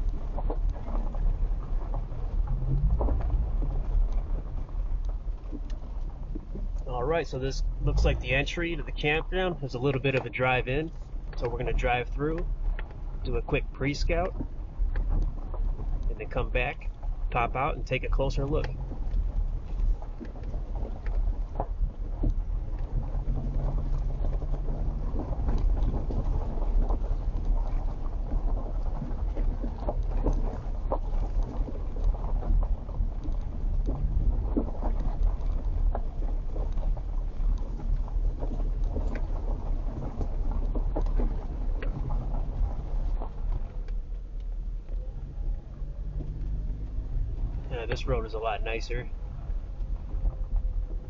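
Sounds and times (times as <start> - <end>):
knocks and rattles from bumps: 0.0 - 51.0
vehicle engine rumble: 0.0 - 51.0.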